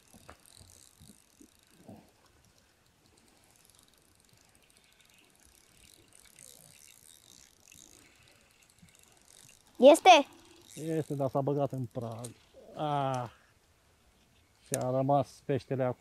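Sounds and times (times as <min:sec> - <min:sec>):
fishing reel clicking and whirring: 0:00.0 - 0:16.0.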